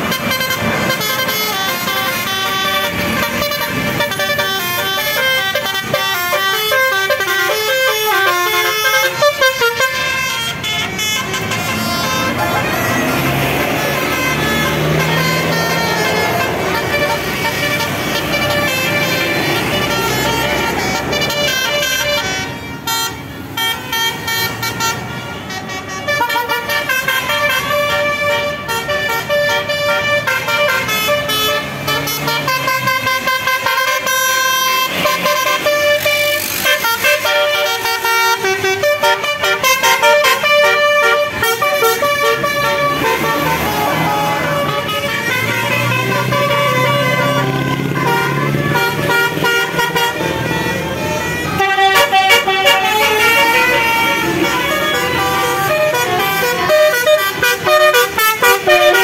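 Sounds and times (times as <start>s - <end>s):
bus engines running: 0.0s - 59.0s
multi-tone bus horns melody: 0.0s - 59.0s.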